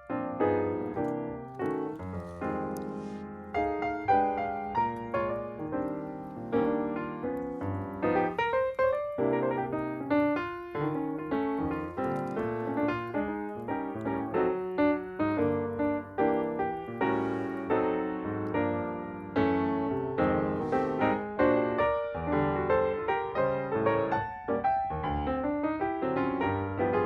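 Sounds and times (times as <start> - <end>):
faint hiss: 0.0 - 25.8
piano music: 0.0 - 27.0.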